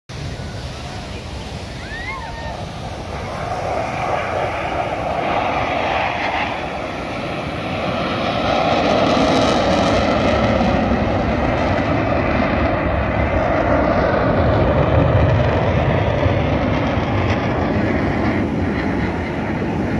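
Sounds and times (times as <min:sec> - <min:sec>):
jet engines flying past: 0:00.1 - 0:19.9.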